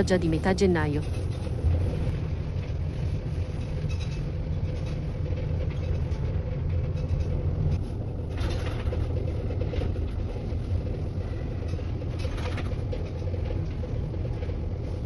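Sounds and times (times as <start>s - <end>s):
funicular car rumbling on track: 0.0s - 15.0s.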